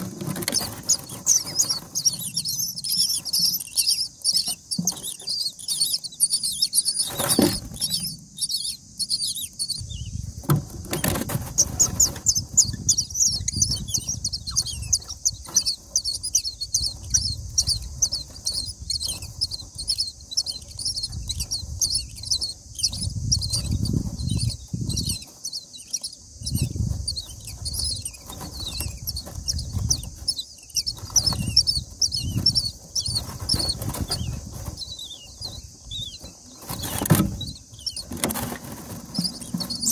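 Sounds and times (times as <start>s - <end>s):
chicks cheeping shrilly: 0.0s - 39.9s.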